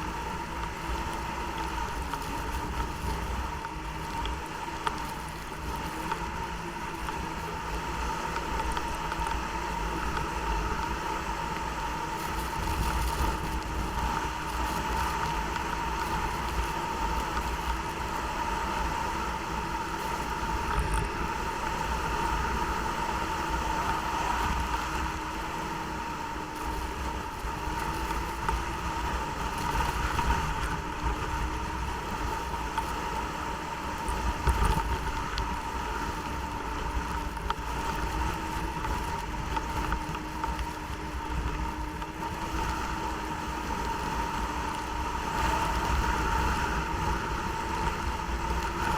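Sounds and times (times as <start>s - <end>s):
snowmobile engine droning: 0.0s - 48.9s.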